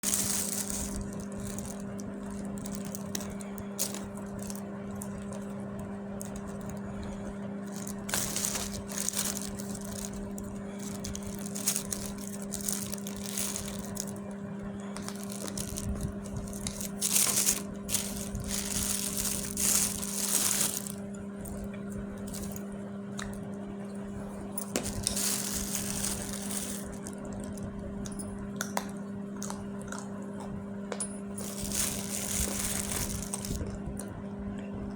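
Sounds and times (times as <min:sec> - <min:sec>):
dried clay crunching and crackling: 0:00.0 - 0:23.4, 0:24.7 - 0:28.1, 0:31.4 - 0:34.0
steady low hum: 0:00.0 - 0:34.9.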